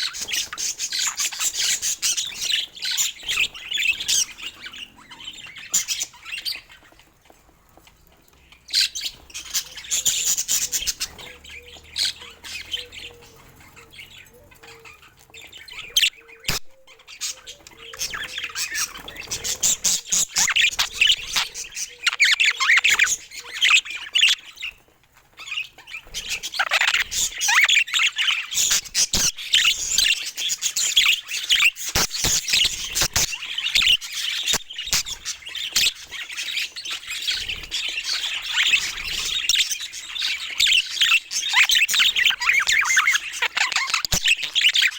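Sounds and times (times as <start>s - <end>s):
budgies chattering: 0.0s - 44.9s.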